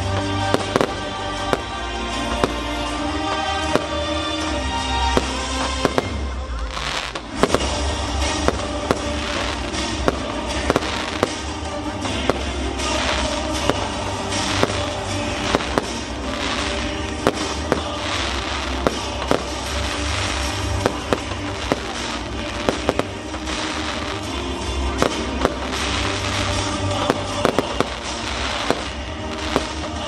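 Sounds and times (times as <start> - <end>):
fireworks bangs and crackling: 0.0 - 30.0
music playing: 0.0 - 30.0.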